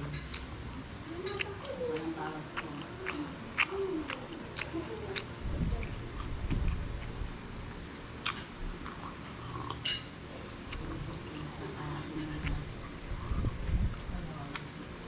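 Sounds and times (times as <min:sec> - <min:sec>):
person chewing food: 0:00.1 - 0:14.7.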